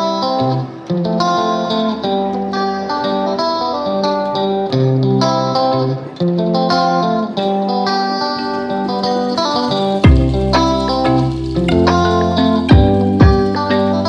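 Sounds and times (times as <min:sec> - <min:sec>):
plucked guitar notes and chords: 0:00.0 - 0:14.0.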